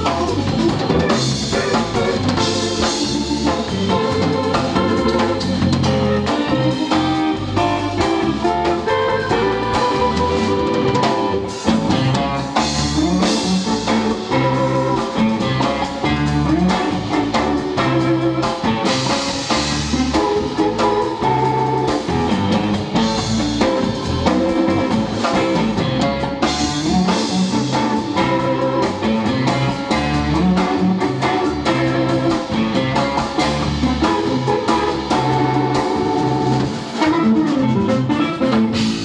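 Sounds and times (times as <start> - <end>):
drum kit: 0.0 - 39.0
electric bass: 0.0 - 39.0
electric guitar: 0.0 - 39.0.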